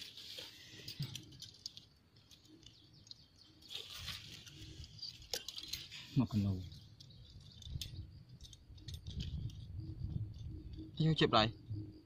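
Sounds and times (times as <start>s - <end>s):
wire traps clicking and rustling: 0.0s - 10.8s.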